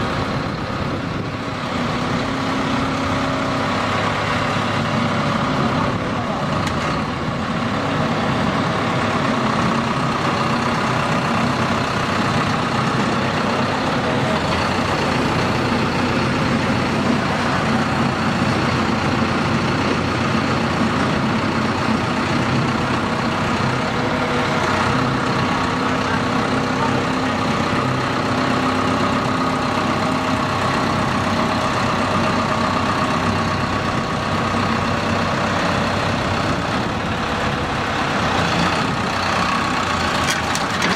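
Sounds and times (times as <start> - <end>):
pile driver machine drone: 0.0 - 40.9.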